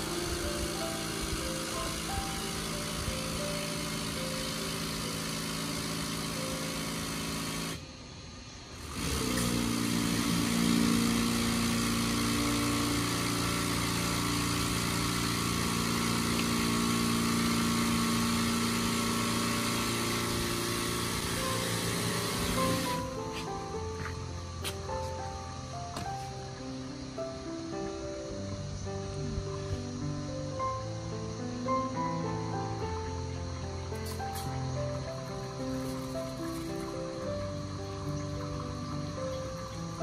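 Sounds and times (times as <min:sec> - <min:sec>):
water spray hissing: 0:00.0 - 0:07.9, 0:08.7 - 0:30.8, 0:31.5 - 0:40.0
pump motor hum: 0:00.0 - 0:40.0.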